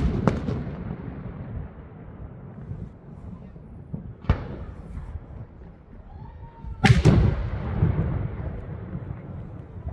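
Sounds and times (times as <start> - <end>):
rumbling echo: 0.0 - 9.9.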